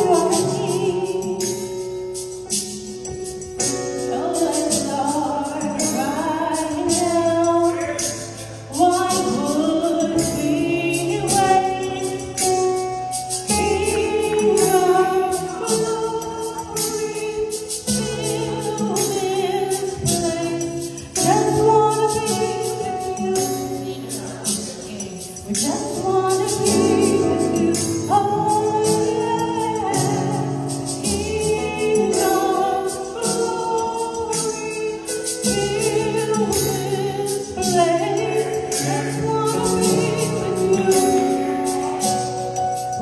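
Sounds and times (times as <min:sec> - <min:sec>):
musical accompaniment: 0:00.0 - 0:43.0
rhythmic percussion beat: 0:00.0 - 0:43.0
women singing in harmony: 0:04.1 - 0:12.8, 0:13.4 - 0:42.4.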